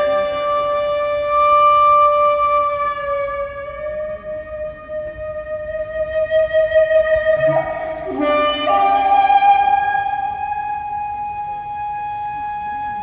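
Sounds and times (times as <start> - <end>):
flute playing: 0.0 - 13.0.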